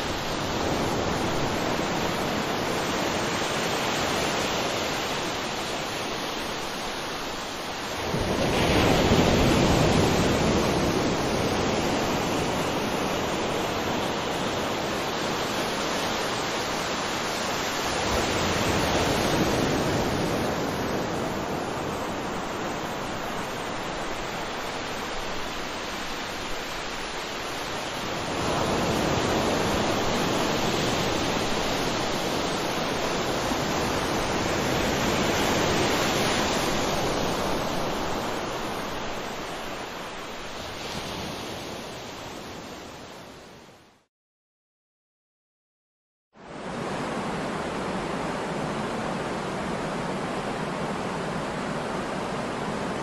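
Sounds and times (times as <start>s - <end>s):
ocean waves breaking: 0.0s - 43.0s.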